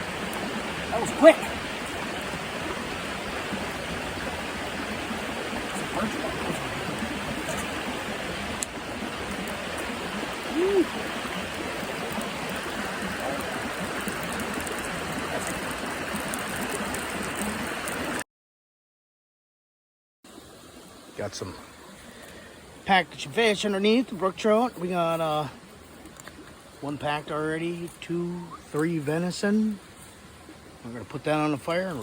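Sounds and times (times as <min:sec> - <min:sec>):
rushing creek water: 0:00.0 - 0:18.2, 0:20.3 - 0:32.0.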